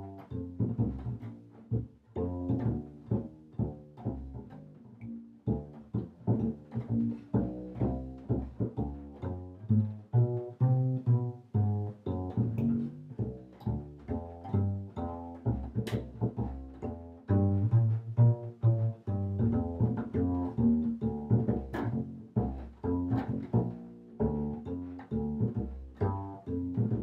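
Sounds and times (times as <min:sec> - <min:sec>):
plucked bass notes: 0:00.0 - 0:27.0.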